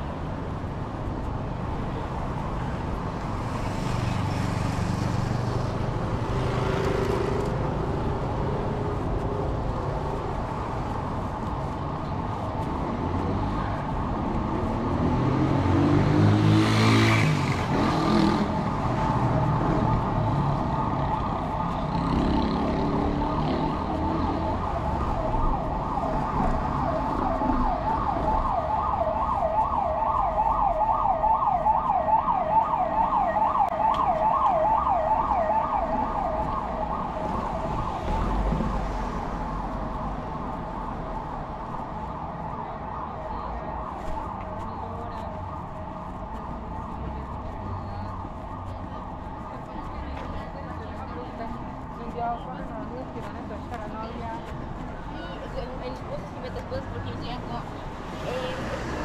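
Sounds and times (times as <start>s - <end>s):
street traffic: 0.0s - 59.0s
emergency vehicle siren: 1.7s - 59.0s.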